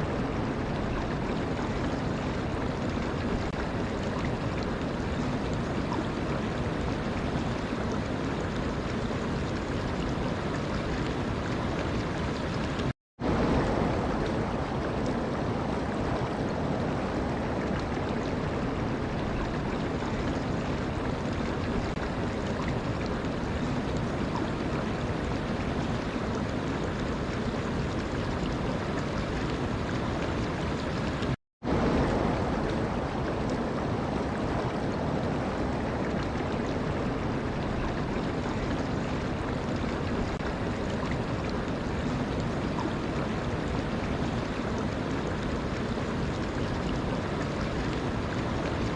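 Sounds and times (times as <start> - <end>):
running water rushing: 0.0 - 48.9.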